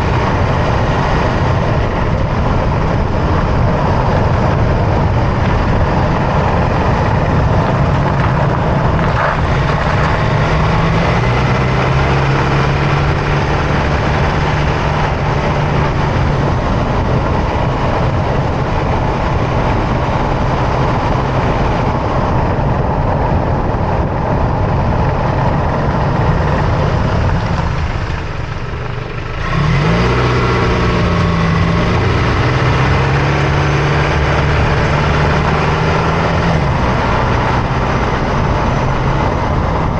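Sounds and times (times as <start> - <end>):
truck engine running: 0.0 - 39.9
tyre and road noise: 0.0 - 39.9.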